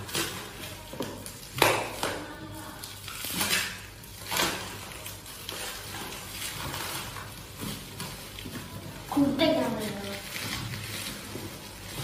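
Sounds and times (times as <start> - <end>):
plastic packing material rustling: 0.0 - 12.0.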